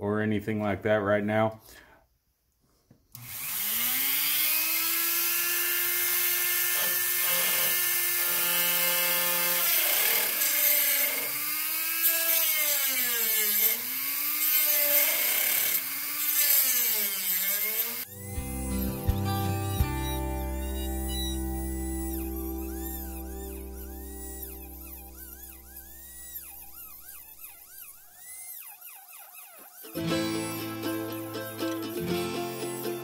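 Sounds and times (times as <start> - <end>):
grinder wheel cutting wood: 3.2 - 33.0
rotary tool high whine: 3.2 - 33.0.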